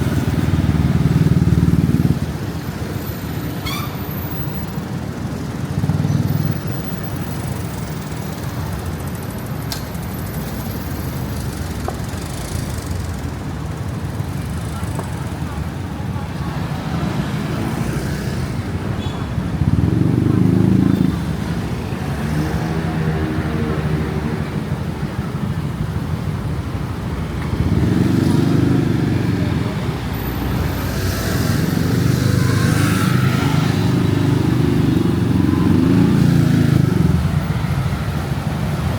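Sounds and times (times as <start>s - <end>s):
city street traffic: 0.0s - 38.9s
vehicle engine rumbling: 0.0s - 38.9s.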